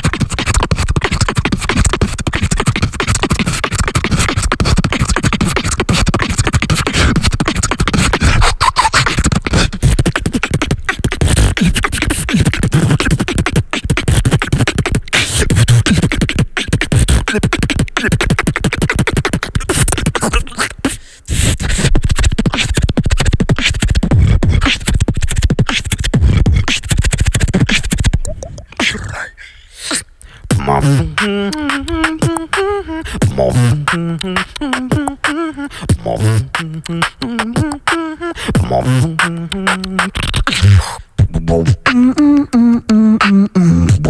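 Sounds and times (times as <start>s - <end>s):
beatboxing into microphone: 0.0s - 44.0s.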